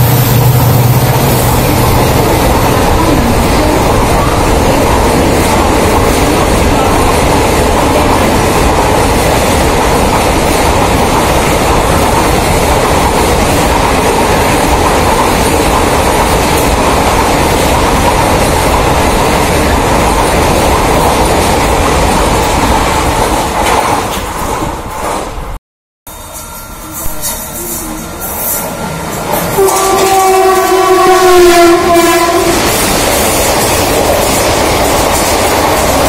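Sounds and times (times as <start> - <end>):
express train passing at speed: 0.0 - 36.0.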